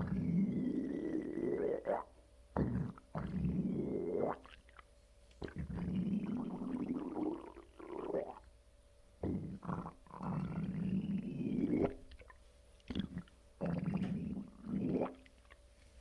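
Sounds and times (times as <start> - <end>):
belly gurgling and rumbling: 0.0 - 8.5, 9.2 - 15.6.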